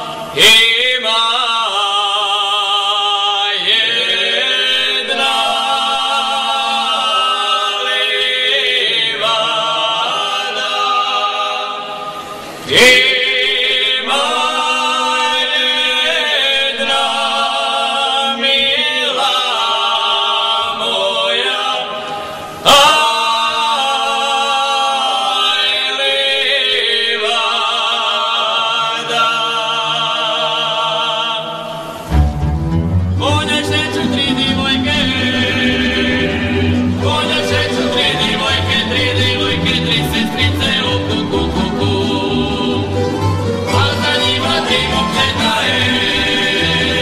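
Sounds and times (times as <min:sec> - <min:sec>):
male choir singing a cappella: 0:00.0 - 0:32.2, 0:33.2 - 0:47.0.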